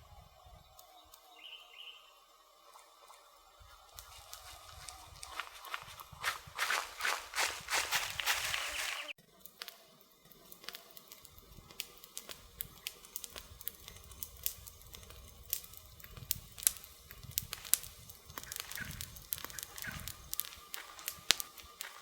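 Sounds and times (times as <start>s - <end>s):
wood fire crackling: 2.8s - 22.0s.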